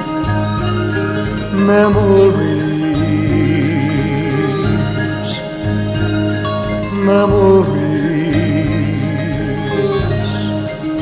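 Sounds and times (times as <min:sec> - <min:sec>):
ballad accompaniment: 0:00.0 - 0:11.0
person singing with vibrato: 0:00.0 - 0:11.0.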